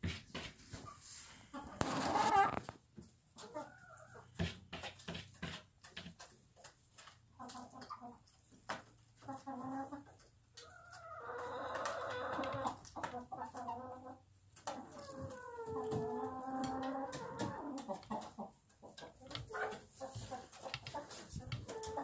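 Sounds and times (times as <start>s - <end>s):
hens clucking: 0.7s - 22.0s.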